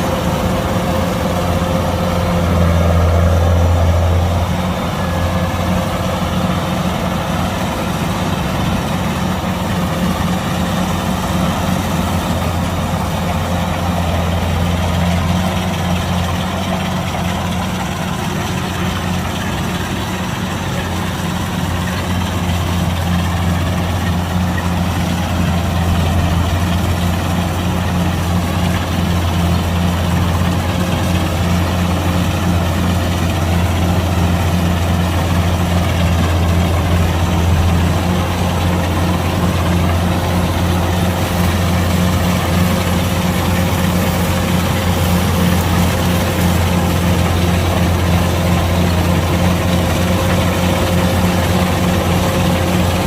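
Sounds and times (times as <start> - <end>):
combine harvester diesel engine: 0.0 - 53.0.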